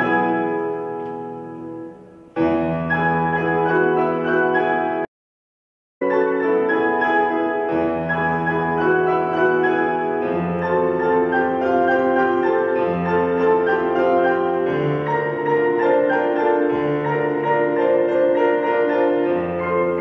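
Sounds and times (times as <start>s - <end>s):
grand piano playing: 0.0s - 5.1s, 6.0s - 20.0s.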